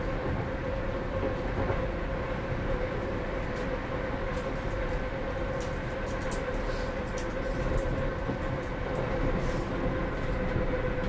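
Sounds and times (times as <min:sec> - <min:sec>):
electric train hum: 0:00.0 - 0:11.0
train wheels rumbling on rail: 0:00.0 - 0:11.0.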